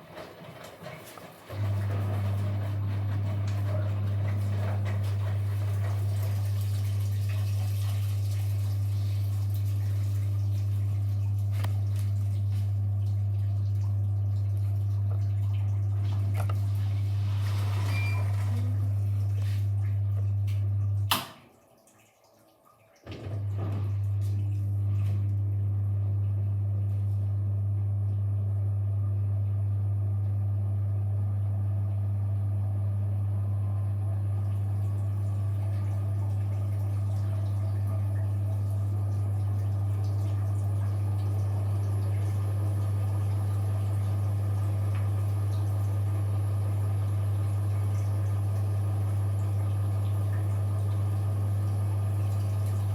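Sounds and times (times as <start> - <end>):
washing machine humming: 0.0 - 52.9
water running through machine: 0.0 - 52.9.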